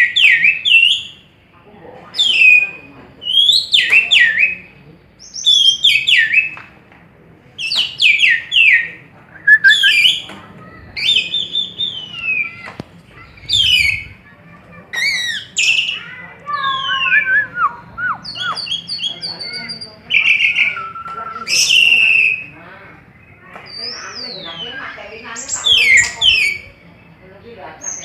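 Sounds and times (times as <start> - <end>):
starling singing: 2.2 - 6.6, 7.6 - 14.2, 14.9 - 27.2, 27.8 - 28.0.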